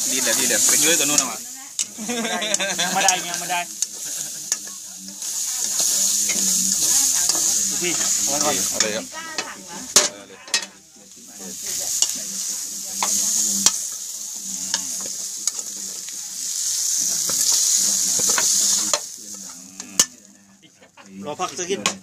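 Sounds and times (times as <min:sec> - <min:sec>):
metal spatula scraping pan: 0:00.0 - 0:10.8, 0:11.4 - 0:20.2
meat sizzling in a pan: 0:00.0 - 0:22.0.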